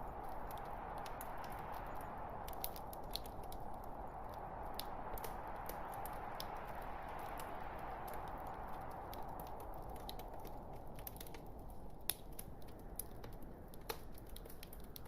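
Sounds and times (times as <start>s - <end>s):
fireplace logs crackling: 0.0s - 15.0s.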